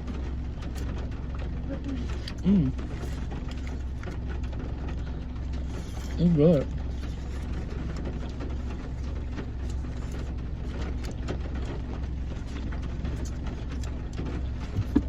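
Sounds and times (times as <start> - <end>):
car cabin hum: 0.0 - 15.0.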